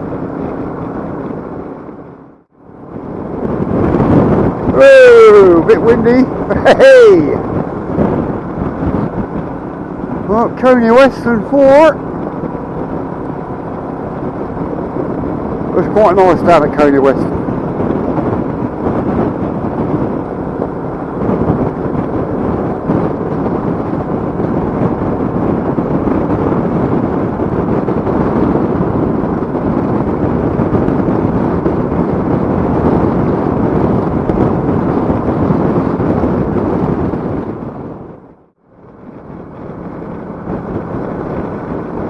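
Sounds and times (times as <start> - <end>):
road and engine noise: 0.0 - 42.0
wind buffeting microphone: 0.0 - 42.0.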